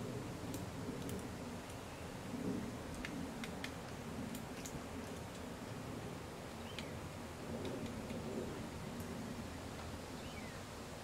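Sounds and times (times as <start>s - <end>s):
wind rustling in trees: 0.0s - 11.0s.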